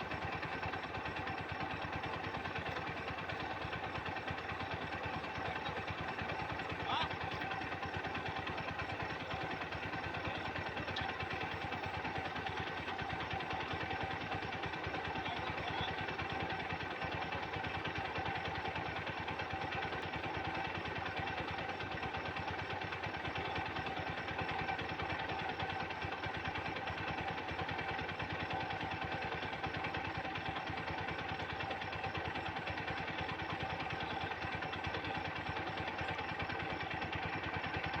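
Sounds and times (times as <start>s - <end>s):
tractor diesel engine idling: 0.0s - 38.0s.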